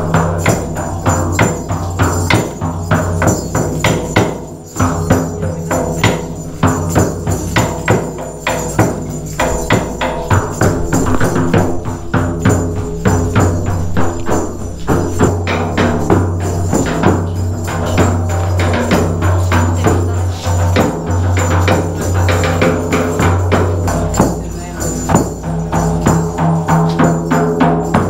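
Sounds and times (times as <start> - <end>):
music with percussive beat: 0.0 - 28.0.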